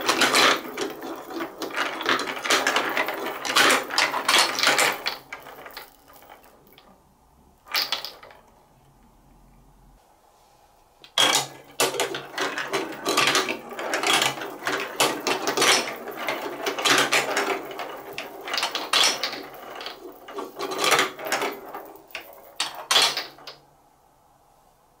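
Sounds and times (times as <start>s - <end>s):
plastic balls clattering down marble run: 0.0s - 6.9s, 7.7s - 8.5s, 11.1s - 23.6s.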